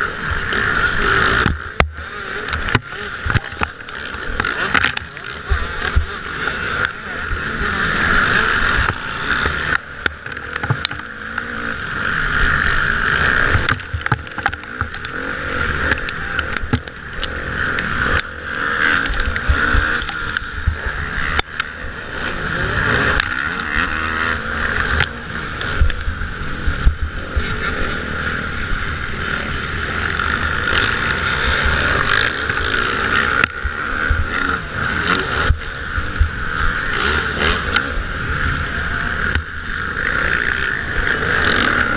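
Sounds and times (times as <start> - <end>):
motocross bikes racing: 0.0 - 41.9.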